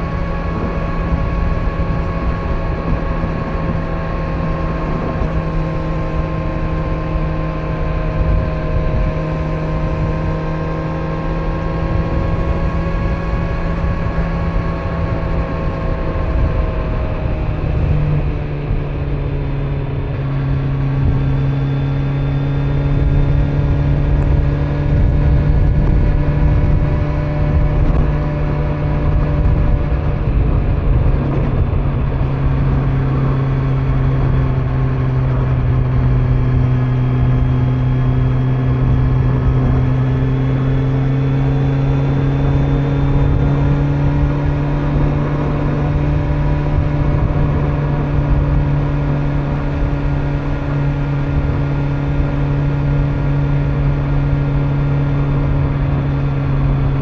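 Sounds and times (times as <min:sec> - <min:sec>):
motorcycle engine cruising: 0:00.0 - 0:57.0
road rumble: 0:00.0 - 0:57.0
wind noise: 0:00.0 - 0:57.0.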